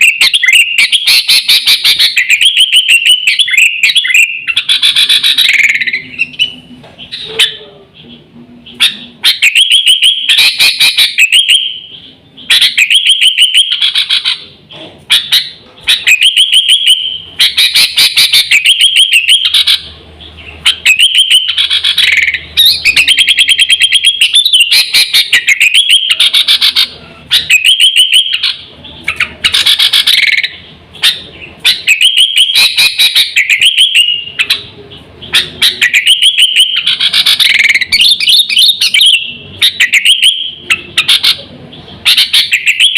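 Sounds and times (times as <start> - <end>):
bird chattering high notes: 0.0 - 42.9.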